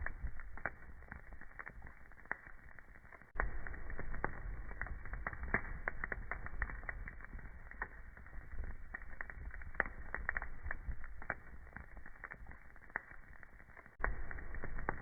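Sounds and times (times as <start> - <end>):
low rumble of burning: 0.0 - 15.0
sharp pops and snaps: 0.0 - 15.0
wood fire crackling: 0.0 - 15.0.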